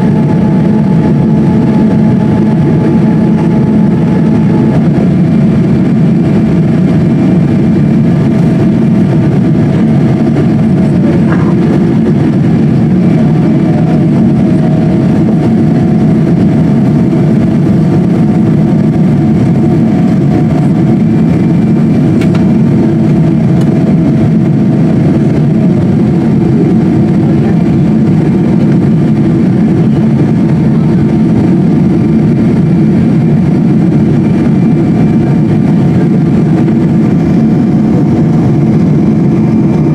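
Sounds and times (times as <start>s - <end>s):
aircraft cabin rumble: 0.0s - 39.9s
faint engine whine: 0.0s - 39.9s.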